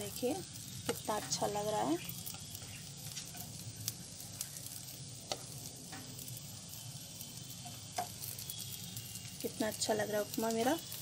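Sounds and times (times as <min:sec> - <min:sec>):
utensil clicking and scraping on pan: 0:00.1 - 0:06.4, 0:07.3 - 0:11.0.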